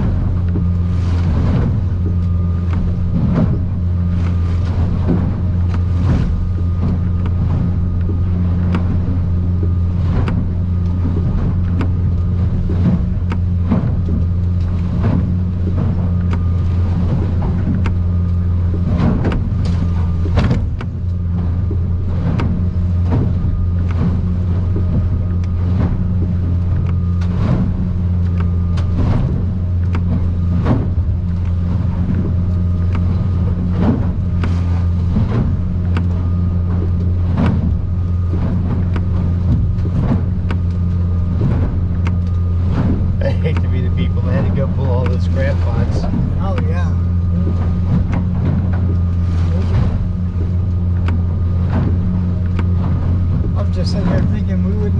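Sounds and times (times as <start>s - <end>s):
boat hull slamming on waves: 0.0s - 54.9s
outboard motor droning: 0.0s - 54.9s.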